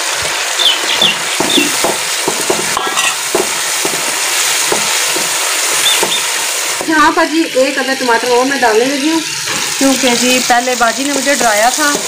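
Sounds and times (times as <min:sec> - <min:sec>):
chicken frying sizzle: 0:00.0 - 0:12.0.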